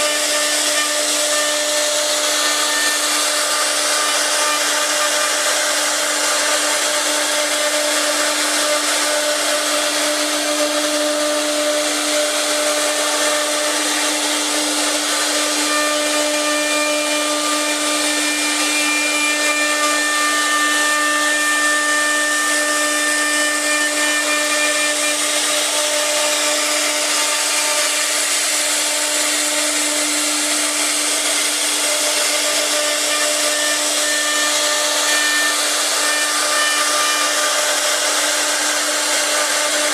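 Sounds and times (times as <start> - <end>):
wood router cutting wood: 0.0 - 39.9.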